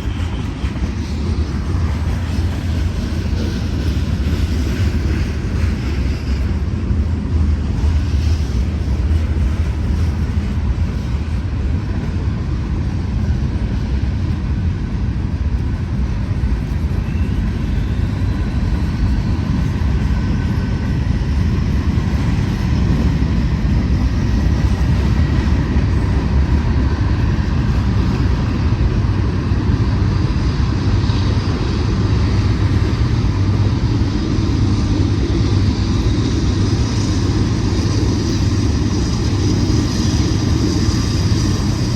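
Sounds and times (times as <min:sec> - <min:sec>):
freight train wheels rumbling: 0:00.0 - 0:41.9.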